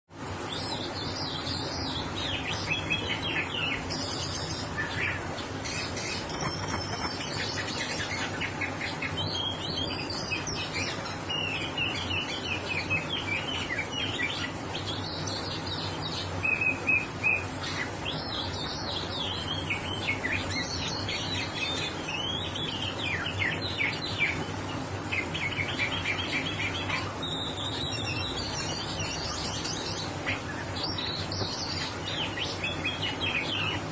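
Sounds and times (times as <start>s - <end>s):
songbird singing whistles and trills: 0.4s - 24.6s, 25.2s - 33.9s.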